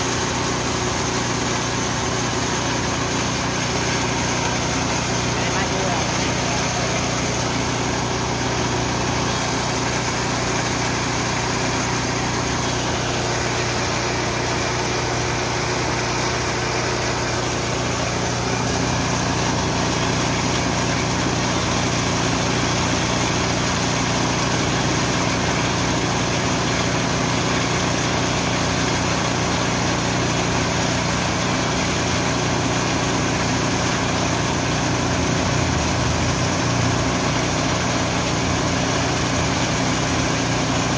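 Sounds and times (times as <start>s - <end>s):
milling machine running: 0.0s - 40.9s.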